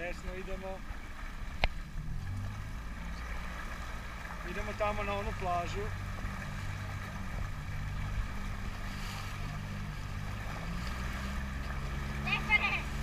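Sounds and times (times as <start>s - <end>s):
motorboat engine running: 0.0s - 13.0s
water rushing past: 0.0s - 13.0s.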